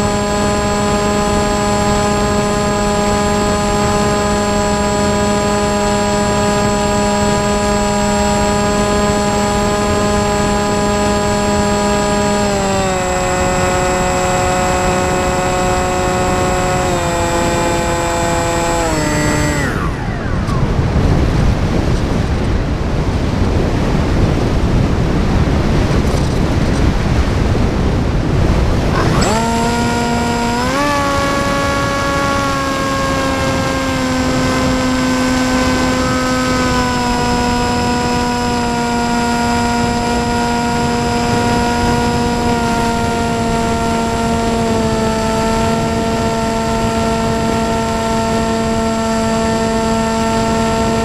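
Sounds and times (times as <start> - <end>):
electric motor whine: 0.0 - 51.0.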